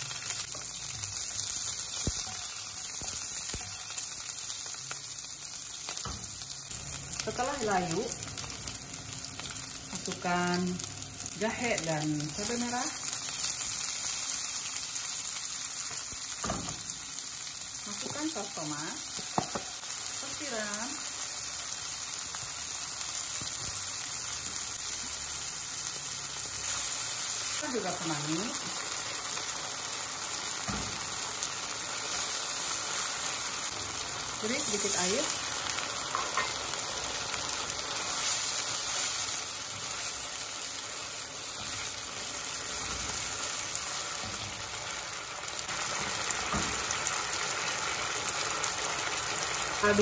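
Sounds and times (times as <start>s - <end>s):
food sizzling in hot oil: 0.0s - 50.0s.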